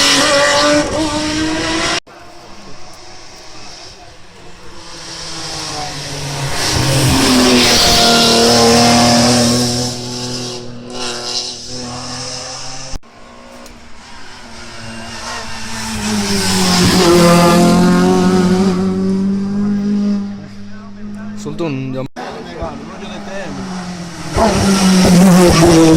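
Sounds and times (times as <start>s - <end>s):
race cars passing at high revs: 0.0s - 25.9s.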